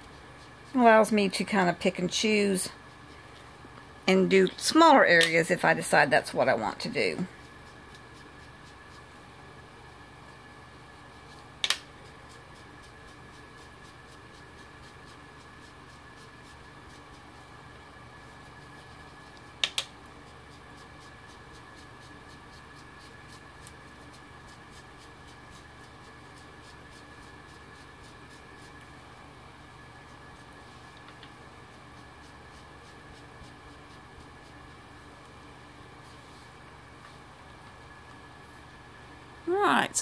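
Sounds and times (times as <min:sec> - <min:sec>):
background hum: 0:00.0 - 0:40.0.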